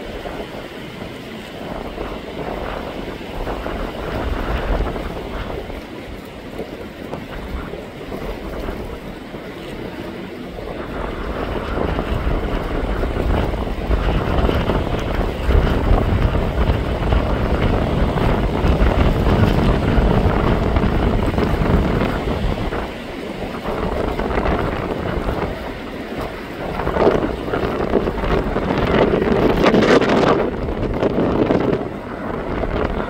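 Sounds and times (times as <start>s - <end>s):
jet airliner rumble: 0.0s - 33.0s
wind buffeting microphone: 0.0s - 33.0s.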